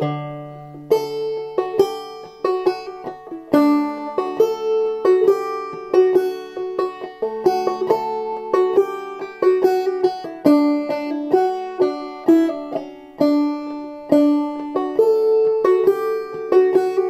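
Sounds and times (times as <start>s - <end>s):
banjo tune: 0.0s - 17.0s.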